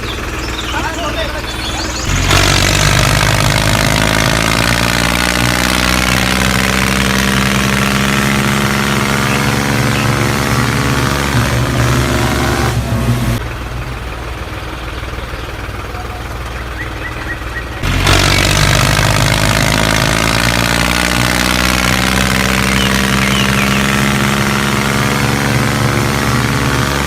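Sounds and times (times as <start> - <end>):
small machinery humming: 0.0 - 27.0.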